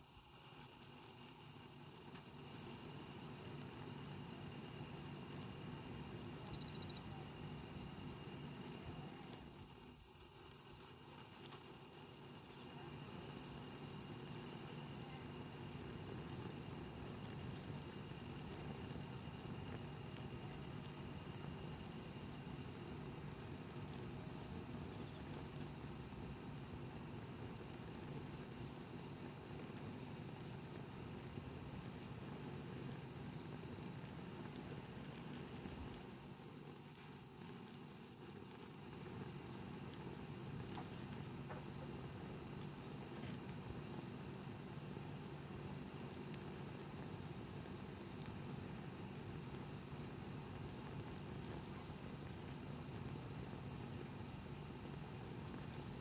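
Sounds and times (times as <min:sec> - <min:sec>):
insects pulsing chirp: 0:00.0 - 0:56.0.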